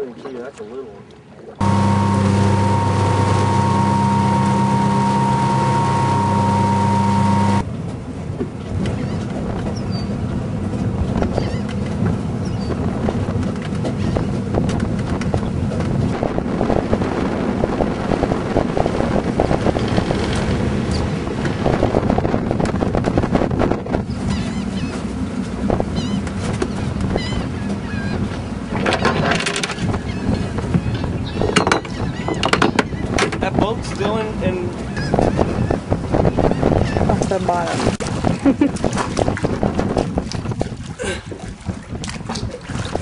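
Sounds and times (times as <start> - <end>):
water noise: 0.0 - 43.0
boat motor humming: 1.0 - 43.0
wind on microphone: 1.6 - 43.0.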